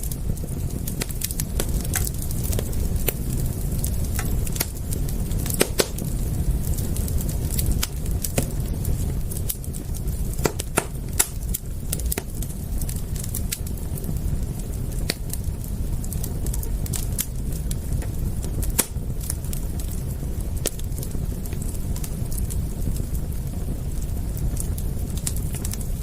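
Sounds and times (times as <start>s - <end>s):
campfire crackling: 0.0s - 26.0s
fire popping: 0.0s - 26.0s.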